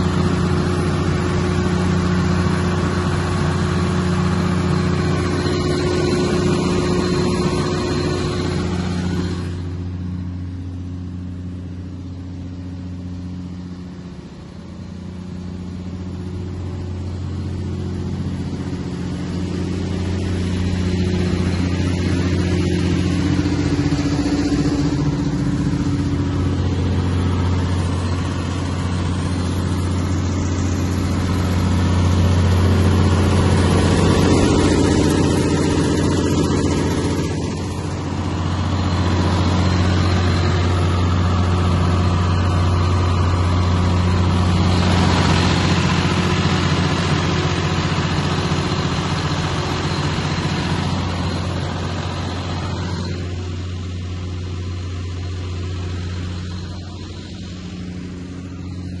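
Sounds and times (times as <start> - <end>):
diesel generator engine drone: 0.0 - 59.0.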